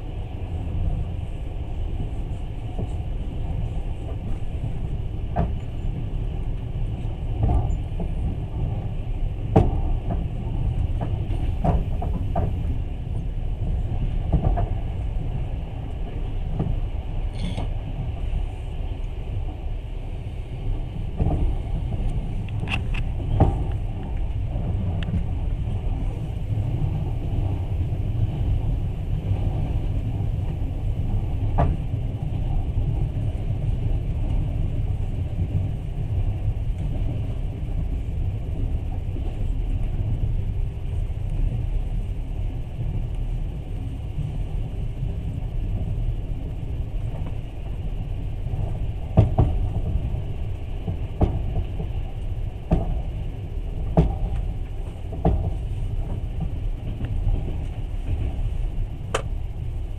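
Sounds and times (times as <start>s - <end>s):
train carriage rumble: 0.0s - 59.9s.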